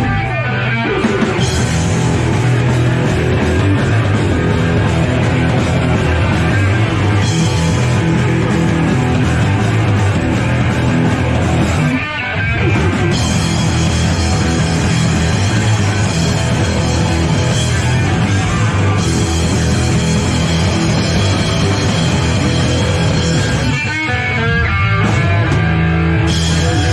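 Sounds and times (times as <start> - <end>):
punk rock band playing live: 0.0 - 26.9.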